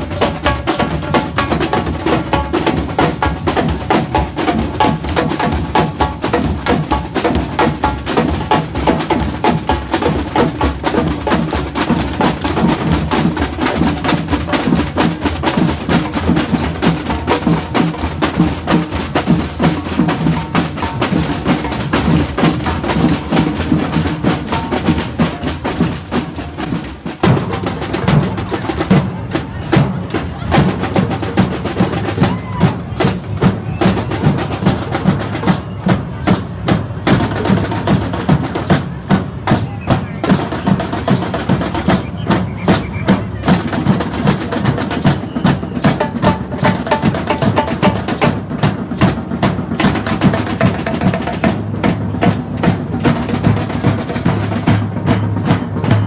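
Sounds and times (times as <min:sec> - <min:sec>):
samba percussion band drumming: 0:00.0 - 0:56.0.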